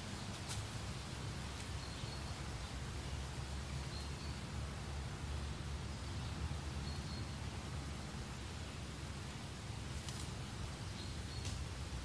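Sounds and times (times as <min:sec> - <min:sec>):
soft wind hiss: 0:00.0 - 0:12.0.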